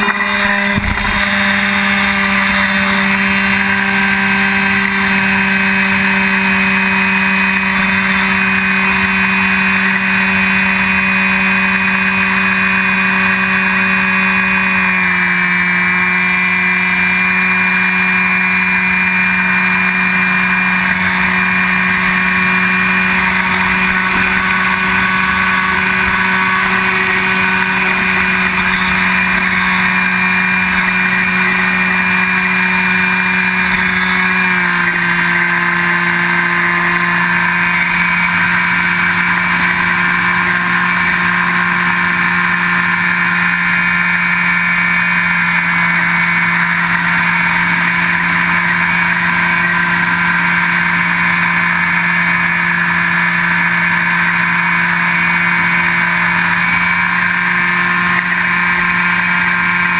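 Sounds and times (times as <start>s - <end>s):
electric motor and propeller drone: 0.0s - 59.9s.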